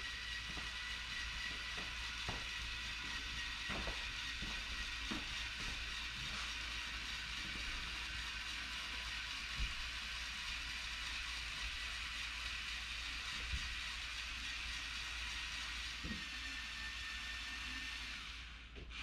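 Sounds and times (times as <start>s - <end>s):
toy motors and gears whirring: 0.0s - 19.0s.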